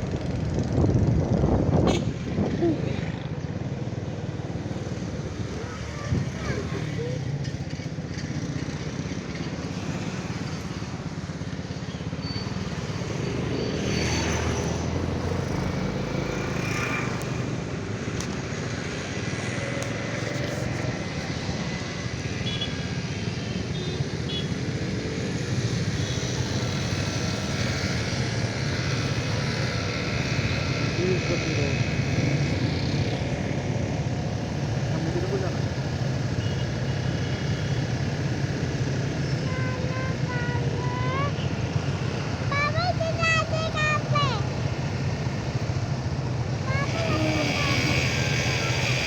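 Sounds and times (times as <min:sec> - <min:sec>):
motorcycle engine running: 0:00.0 - 0:49.0
road noise: 0:00.0 - 0:49.0.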